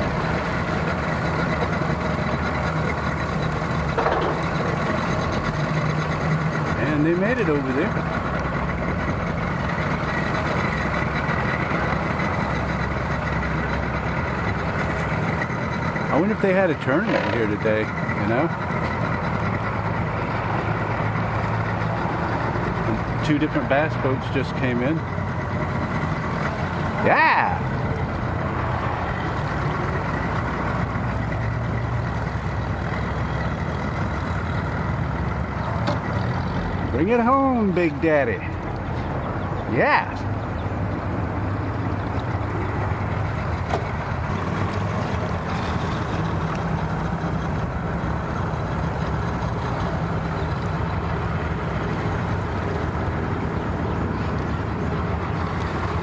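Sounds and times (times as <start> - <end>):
engines idling: 0.0 - 56.0
outboard motor running: 0.0 - 56.0.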